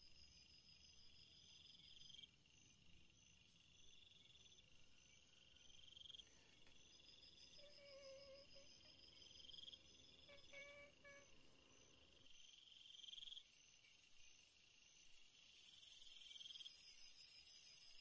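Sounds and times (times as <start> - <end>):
night insects trilling: 0.1 - 18.0.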